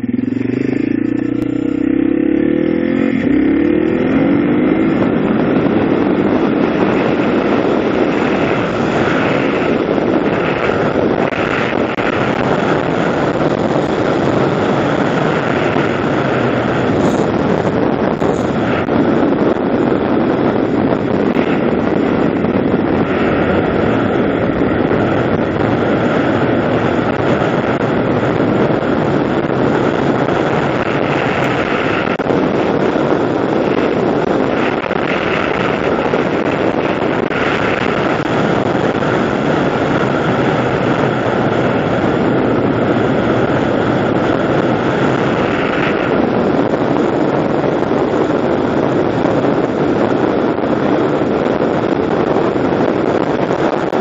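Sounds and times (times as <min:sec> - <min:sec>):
vehicle engine drone: 0:00.0 - 0:54.0
wind rush on microphone: 0:00.0 - 0:54.0.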